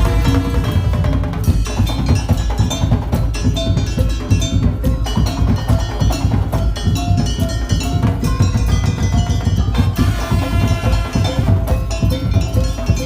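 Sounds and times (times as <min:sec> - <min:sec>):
heavy drums: 0:00.0 - 0:13.0
wooden percussion: 0:00.0 - 0:13.0.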